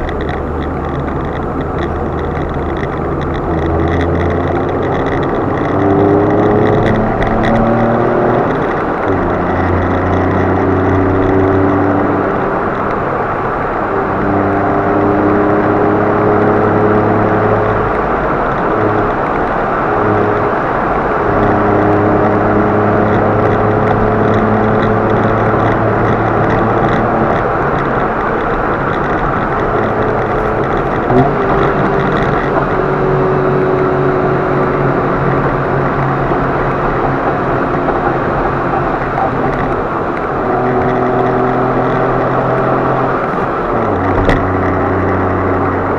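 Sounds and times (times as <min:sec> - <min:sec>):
car engine: 0:00.0 - 0:45.9
tyre and road noise: 0:00.0 - 0:45.9.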